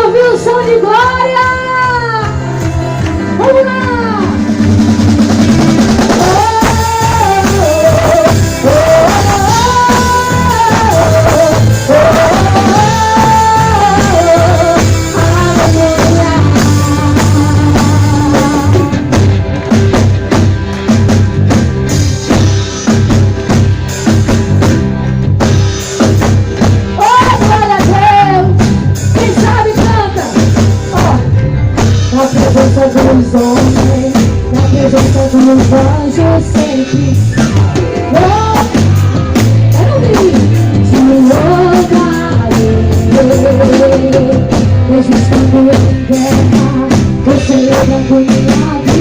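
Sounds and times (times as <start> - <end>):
drum kit beat: 0.0 - 49.0
worship band playing: 0.0 - 49.0.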